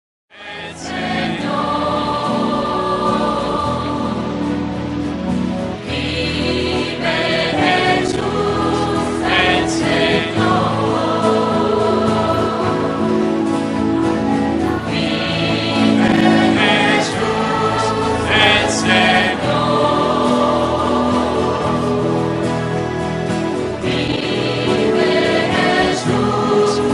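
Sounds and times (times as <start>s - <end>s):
choir singing with accompaniment: 0.3s - 26.9s.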